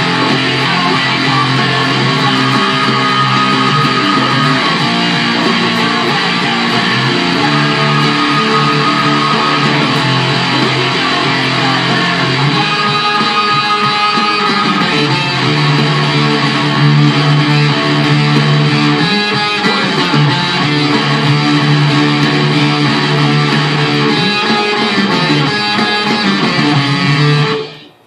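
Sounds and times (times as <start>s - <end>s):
electric guitar strumming rock chords: 0.0s - 28.0s.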